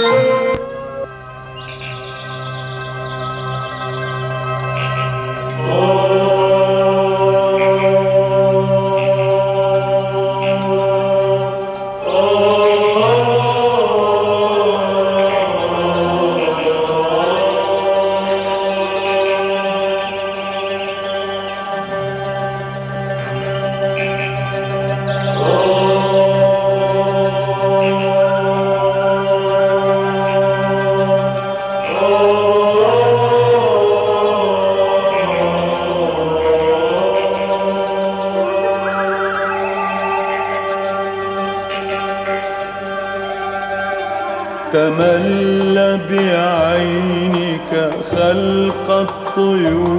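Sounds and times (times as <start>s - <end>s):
held accompanying tones: 0.0s - 14.0s, 14.8s - 49.9s
person chanting a slow melody: 0.0s - 49.9s.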